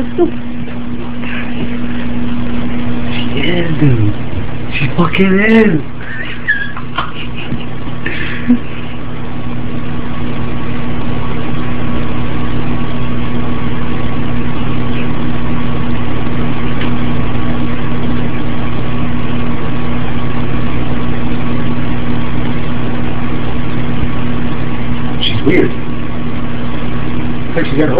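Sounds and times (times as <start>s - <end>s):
machine-like hum with low drone: 0.0s - 27.9s.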